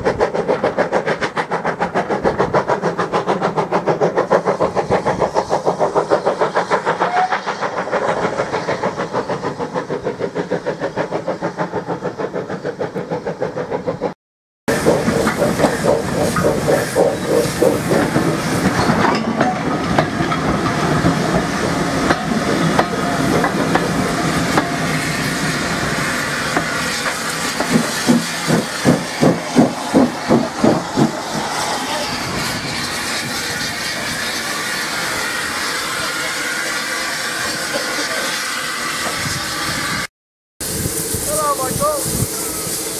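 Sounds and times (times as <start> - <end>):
steam hissing: 0.0 - 42.9
steam locomotive exhaust chuffs: 0.0 - 42.9.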